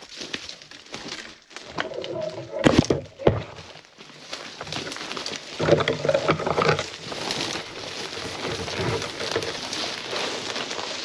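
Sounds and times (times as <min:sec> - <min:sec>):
branch dragged through dry grass: 0:00.0 - 0:11.0.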